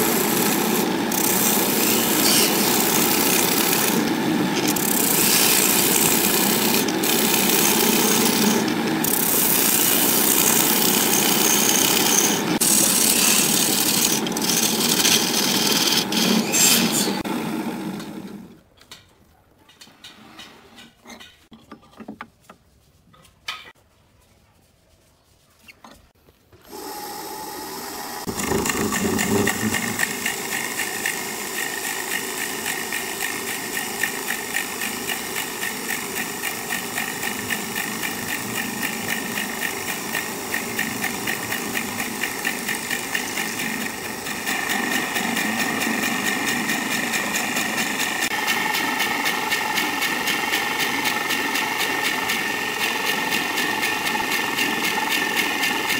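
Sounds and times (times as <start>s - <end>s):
wood lathe humming: 0.0s - 18.6s, 26.6s - 55.9s.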